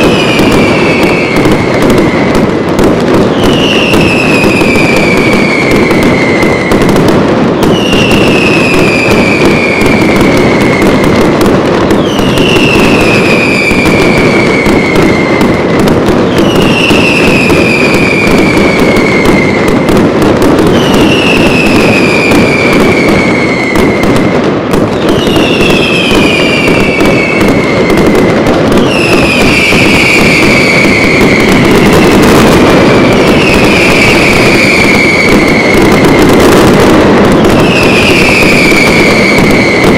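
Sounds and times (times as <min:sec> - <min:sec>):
fireworks crackling and popping: 0:00.0 - 0:39.9
whistling fireworks: 0:00.0 - 0:39.9.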